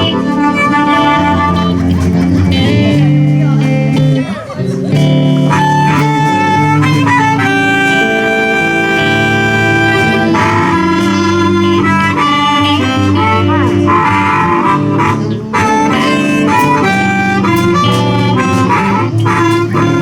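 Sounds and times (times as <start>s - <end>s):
blues harmonica: 0.0s - 20.0s
live blues band playing: 0.0s - 20.0s.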